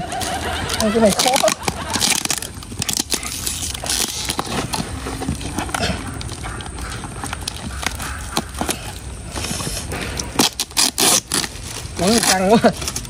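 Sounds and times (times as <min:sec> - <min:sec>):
packing tape peeling: 0:00.0 - 0:13.0
plastic crinkling: 0:00.0 - 0:13.0.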